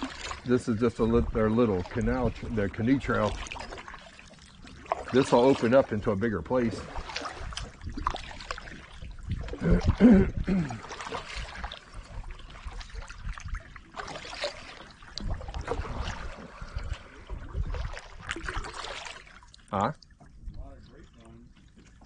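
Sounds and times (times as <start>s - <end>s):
paddle splashing water: 0.0s - 22.0s.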